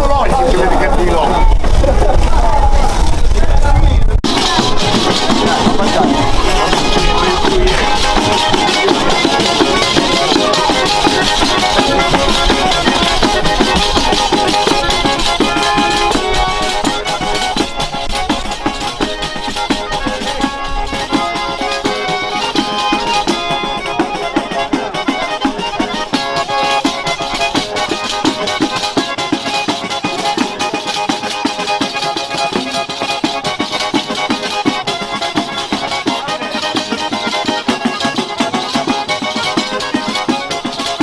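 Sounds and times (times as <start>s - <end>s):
button accordion folk tune: 4.2s - 41.0s.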